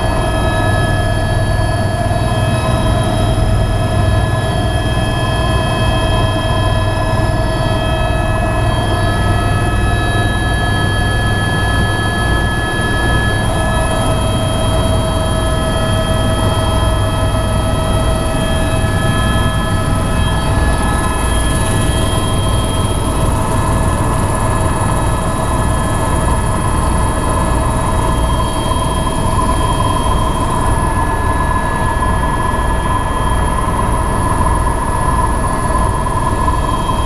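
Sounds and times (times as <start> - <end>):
helicopter rotor drone: 0.0 - 37.0
turbine engine whining: 0.0 - 37.0.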